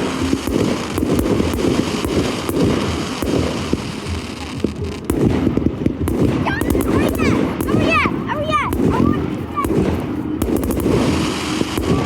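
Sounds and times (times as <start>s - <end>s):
continuous rumble: 0.0s - 12.0s
fireworks bangs and crackles: 0.0s - 12.0s.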